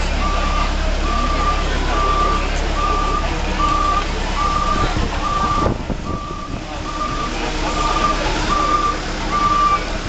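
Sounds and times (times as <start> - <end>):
diesel engine running: 0.0 - 10.0
backup alarm beeping: 0.2 - 9.9.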